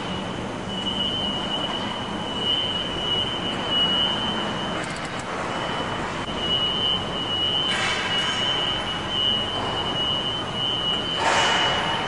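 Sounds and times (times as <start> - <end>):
high-pitched whine: 0.0 - 12.0
mechanical background noise: 0.0 - 12.0.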